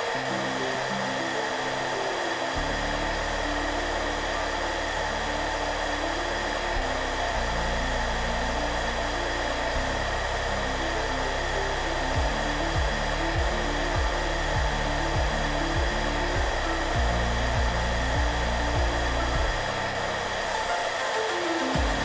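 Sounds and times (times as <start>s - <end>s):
hair dryer blowing: 0.0s - 22.0s
soft background music: 0.0s - 22.0s.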